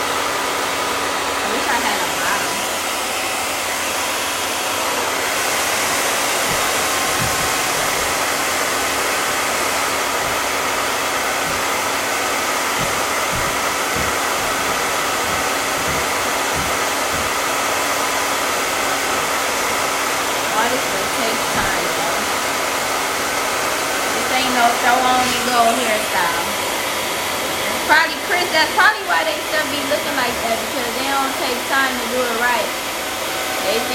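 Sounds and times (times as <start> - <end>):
blow dryer running: 0.0 - 33.9.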